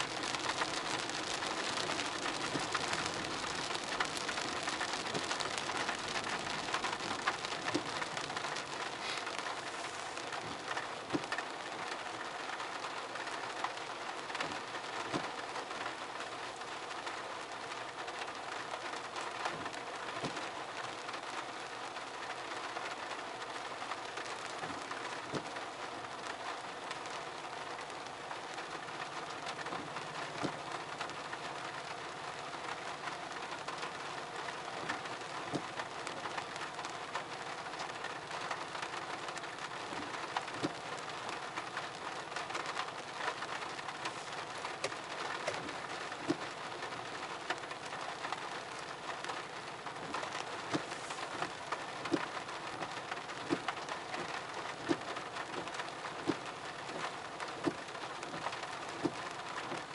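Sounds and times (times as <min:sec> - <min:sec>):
sharp drips and ticks: 0:00.0 - 0:59.9
steady rain: 0:00.0 - 0:59.9.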